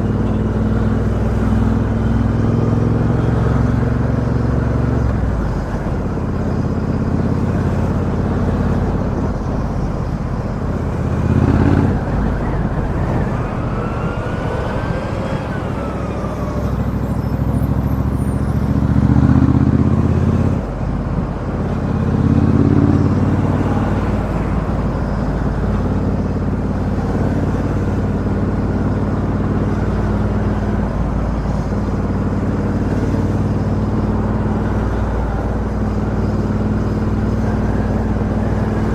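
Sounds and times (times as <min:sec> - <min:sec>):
motorcycle engine low note: 0:00.0 - 0:38.9.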